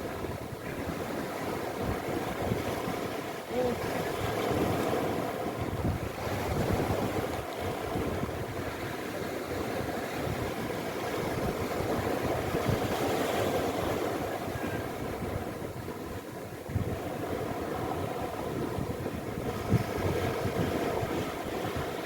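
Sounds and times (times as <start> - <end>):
sea rushing: 0.0 - 22.0
wind buffeting microphone: 0.0 - 22.0.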